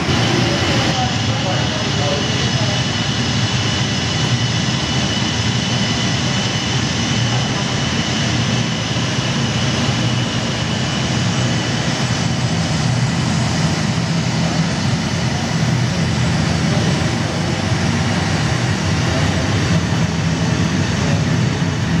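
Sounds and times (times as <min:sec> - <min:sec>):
jet engine sound effect: 0:00.0 - 0:22.0.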